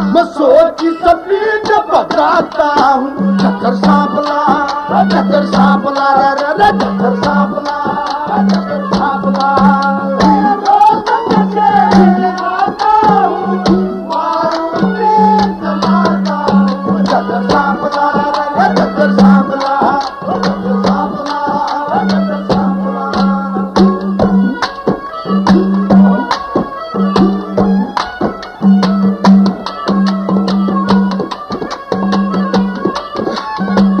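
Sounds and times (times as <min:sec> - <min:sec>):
folk melody: 0:00.0 - 0:34.0
hand drumming: 0:00.0 - 0:34.0.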